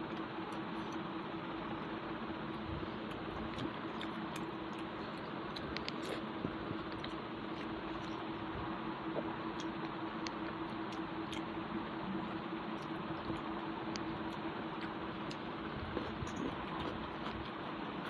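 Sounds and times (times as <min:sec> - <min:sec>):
low hum: 0:00.0 - 0:18.0
faint chewing: 0:01.8 - 0:18.0.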